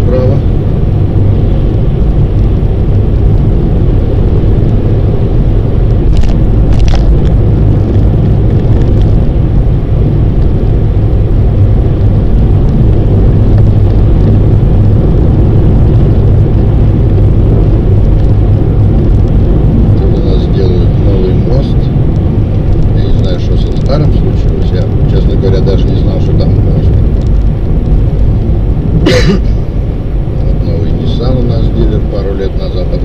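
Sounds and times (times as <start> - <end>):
car road and engine rumble: 0.0 - 33.0.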